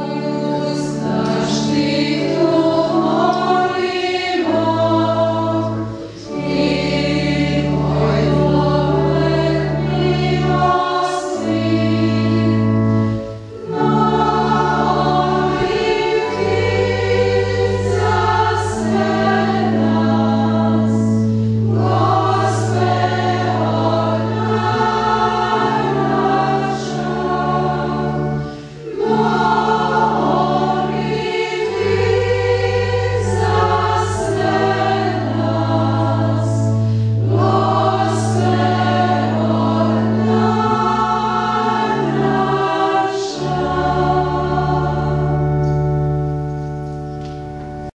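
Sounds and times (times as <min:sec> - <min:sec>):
organ chords: 0:00.0 - 0:47.9
women's choir singing a hymn: 0:00.0 - 0:47.9.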